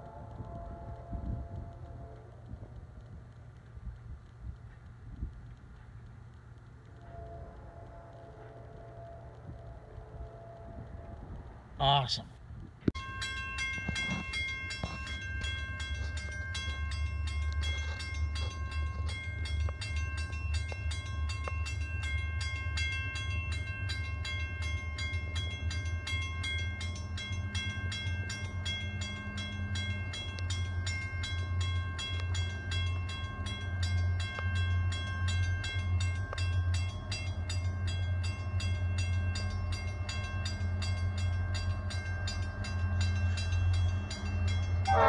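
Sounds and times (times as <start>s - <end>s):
crossing warning bell ringing: 0.0s - 2.5s, 6.6s - 12.2s, 13.0s - 45.0s
train rumbling: 0.0s - 45.0s.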